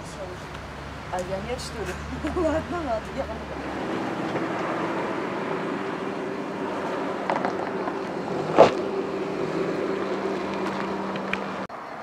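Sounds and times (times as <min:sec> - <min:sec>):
road and wind noise: 0:00.0 - 0:12.0
vehicle engine humming: 0:00.0 - 0:12.0.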